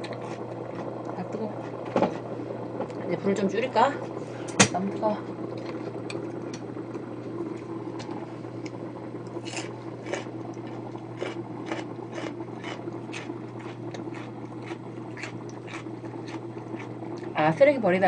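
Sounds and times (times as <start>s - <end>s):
porridge bubbles popping: 0.0s - 18.0s
steady low hum: 0.0s - 18.0s.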